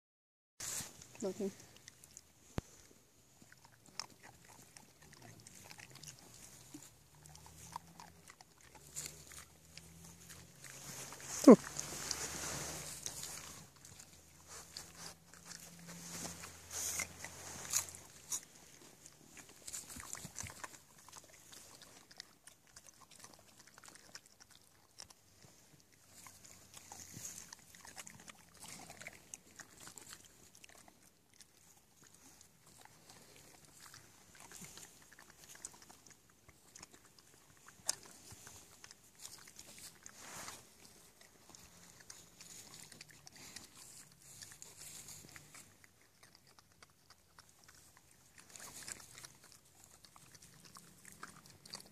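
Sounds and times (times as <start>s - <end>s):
animals chewing peanuts: 0.6s - 51.9s.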